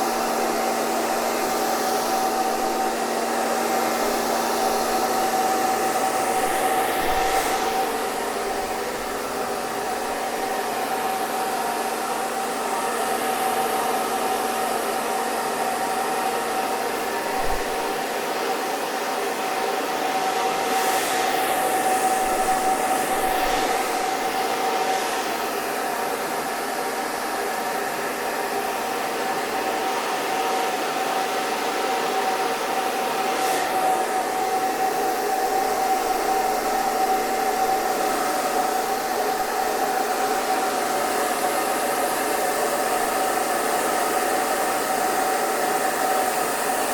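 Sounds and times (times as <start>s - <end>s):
hair dryer running: 0.0s - 46.9s.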